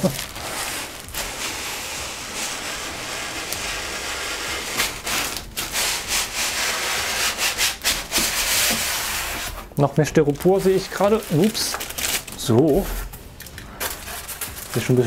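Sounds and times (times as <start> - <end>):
styrofoam scraping against cardboard: 0.0 - 13.1, 13.7 - 15.0
plastic wrapping rustling: 0.0 - 15.0.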